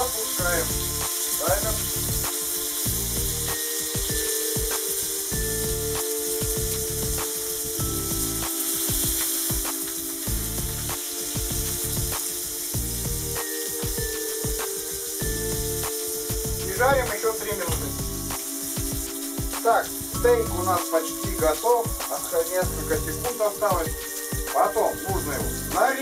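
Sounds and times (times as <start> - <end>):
meat sizzling in a pan: 0.0 - 26.0.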